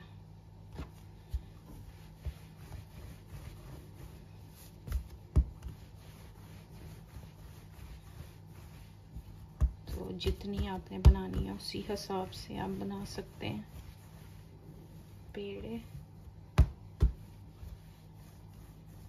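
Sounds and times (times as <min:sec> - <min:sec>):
faint steady hum: 0:00.0 - 0:19.0
hands rubbing dough on counter: 0:00.7 - 0:19.0.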